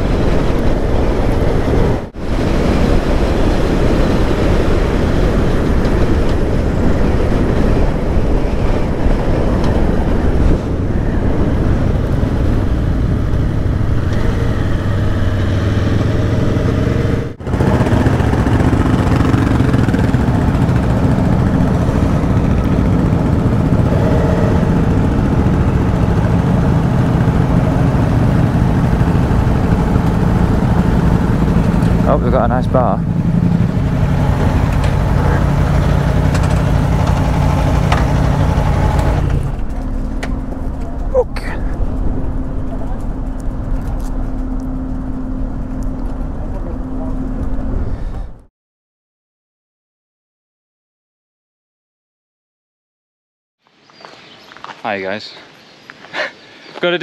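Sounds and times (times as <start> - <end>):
motorcycle engine running: 0.0 - 48.5
rush of riding noise: 0.0 - 48.5.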